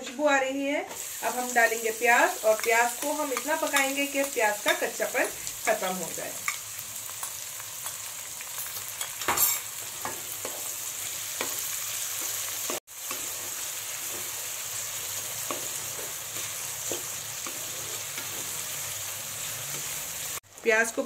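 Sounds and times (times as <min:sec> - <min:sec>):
onions sizzling in oil: 0:00.9 - 0:21.0.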